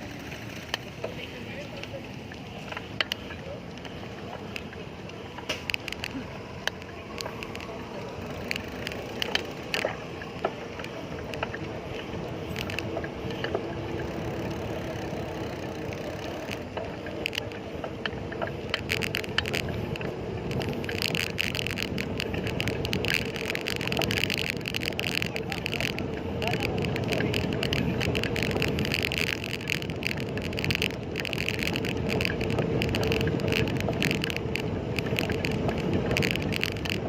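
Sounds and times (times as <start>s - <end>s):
bicycle clicks and rattles: 0.0s - 37.0s
bicycle tyre and air noise: 0.0s - 37.0s.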